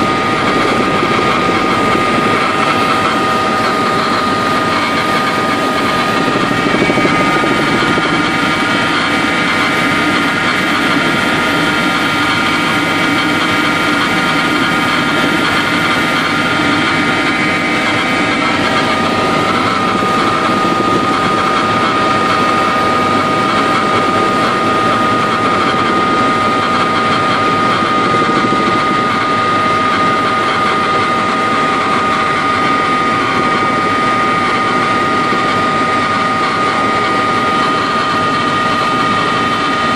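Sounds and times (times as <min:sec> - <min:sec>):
helicopter engine and rotor rumble: 0:00.0 - 0:39.9
high-pitched whine: 0:00.0 - 0:39.9.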